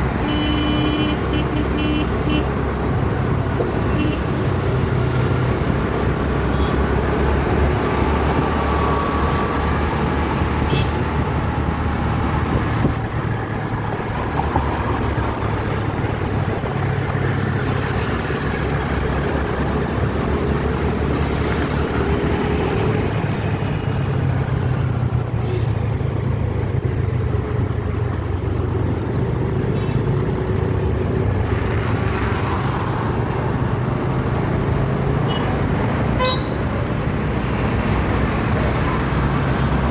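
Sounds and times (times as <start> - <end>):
road traffic: 0.0 - 39.9.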